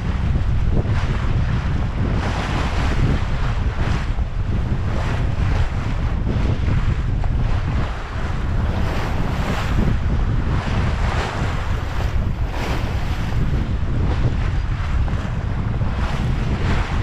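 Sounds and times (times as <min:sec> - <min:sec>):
water splashing along hull: 0:00.0 - 0:17.0
wind buffeting microphone: 0:00.0 - 0:17.0.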